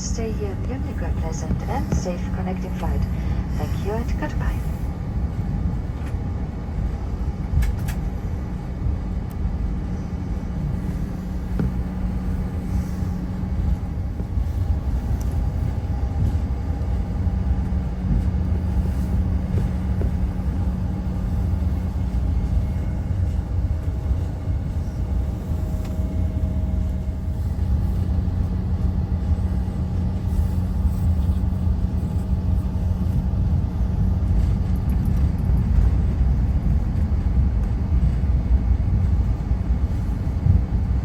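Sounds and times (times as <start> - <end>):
jet cabin rumble: 0.0 - 41.0
turbofan engines humming: 0.0 - 41.0.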